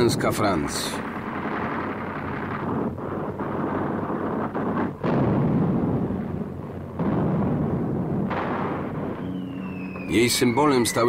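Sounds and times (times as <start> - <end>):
shell explosions and artillery fire: 0.0 - 11.0.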